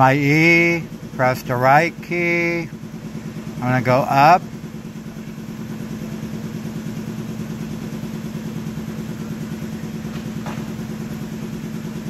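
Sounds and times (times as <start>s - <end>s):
machine motor humming: 0.0s - 12.0s.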